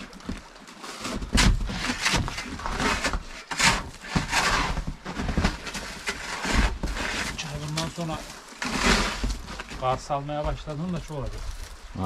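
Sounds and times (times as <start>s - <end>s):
snow scraping and brushing: 0.7s - 12.0s.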